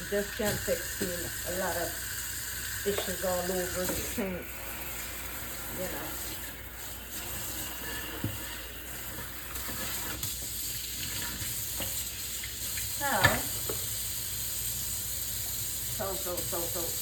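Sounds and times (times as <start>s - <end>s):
dishes being washed at sink: 0.0s - 17.0s.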